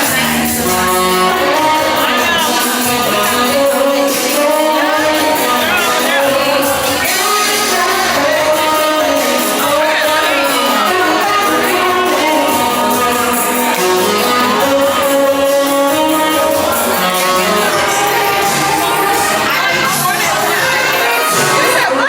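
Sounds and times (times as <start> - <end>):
bending lead melody: 0.0 - 22.0
live jazz band playing: 0.0 - 22.0.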